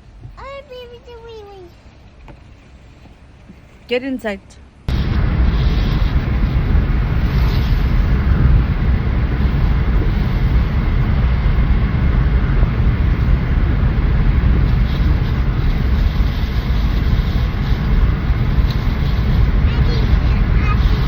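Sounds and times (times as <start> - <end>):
moving vehicle rumble and road noise: 0.0 - 21.0.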